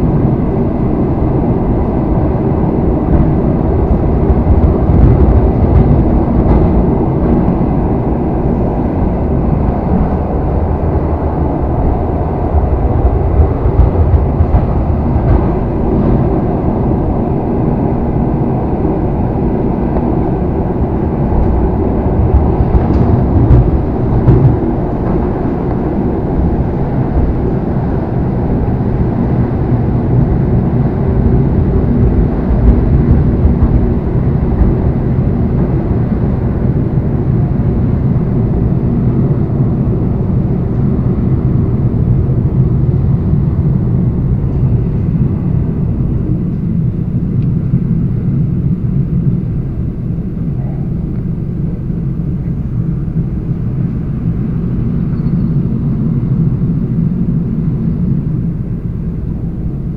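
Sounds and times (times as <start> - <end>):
electric train hum: 0.0 - 59.9
train wheels rumbling on bridge: 0.0 - 59.9.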